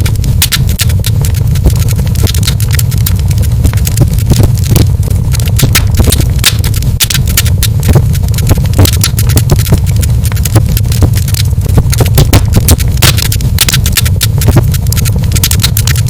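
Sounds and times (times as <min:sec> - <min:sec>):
low rumble: 0:00.0 - 0:16.0
wood fire crackling: 0:00.0 - 0:16.0
sharp pops: 0:00.2 - 0:16.0.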